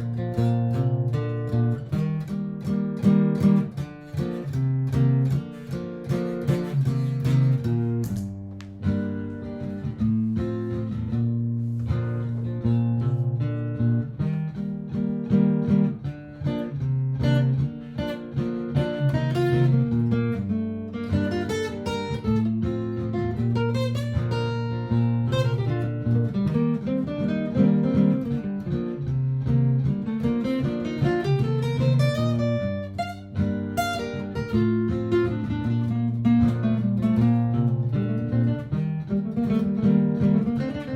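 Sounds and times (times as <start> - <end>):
acoustic guitar improvising: 0.0 - 40.9
looped guitar backing: 0.0 - 40.9.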